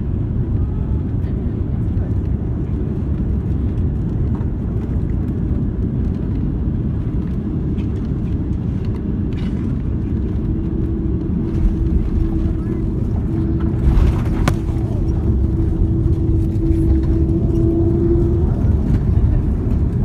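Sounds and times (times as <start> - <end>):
airplane low rumble: 0.0 - 20.0.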